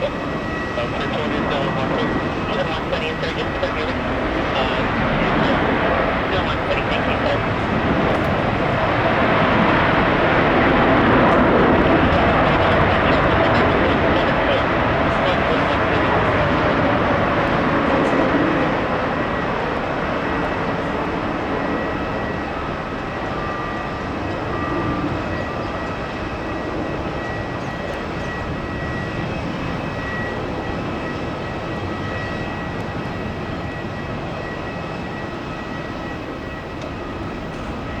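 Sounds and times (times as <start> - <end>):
jet engines roaring: 0.0 - 38.0.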